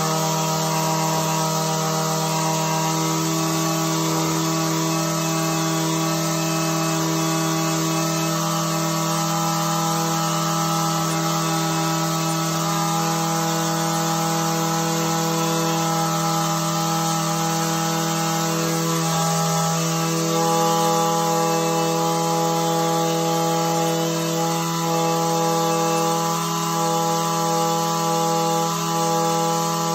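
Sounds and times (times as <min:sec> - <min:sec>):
string trimmer engine running: 0:00.0 - 0:29.9.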